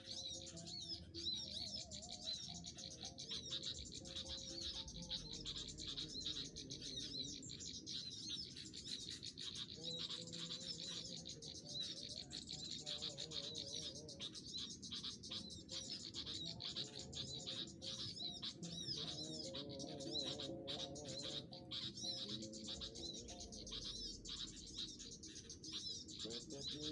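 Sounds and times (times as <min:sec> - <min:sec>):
small birds twittering: 0:00.0 - 0:26.9.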